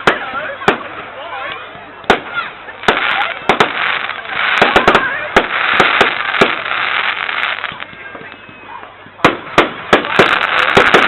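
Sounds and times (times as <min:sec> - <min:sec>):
fireworks bangs: 0:00.0 - 0:01.2, 0:02.0 - 0:08.4, 0:09.1 - 0:11.0
fireworks crackling hiss: 0:00.0 - 0:11.0.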